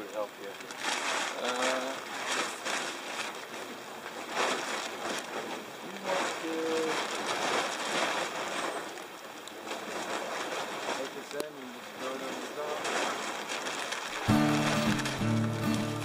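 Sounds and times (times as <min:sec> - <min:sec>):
plastic tarp crinkling: 0:00.0 - 0:16.0.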